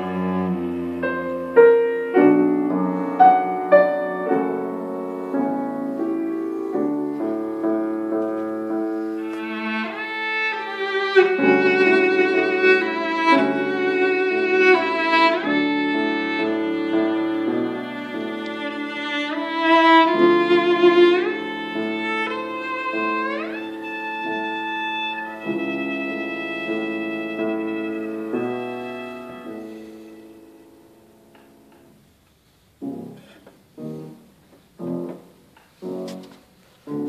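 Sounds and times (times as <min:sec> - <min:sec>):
cello bowed melody: 0:00.0 - 0:32.1, 0:32.8 - 0:37.0
piano: 0:00.0 - 0:37.0.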